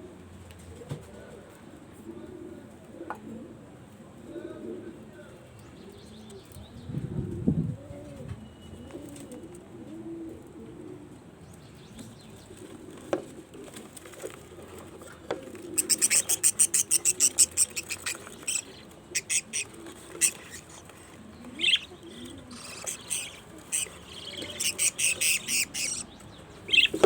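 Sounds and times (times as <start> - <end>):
pigeons cooing: 0.0 - 5.1, 5.9 - 11.4, 12.2 - 27.0.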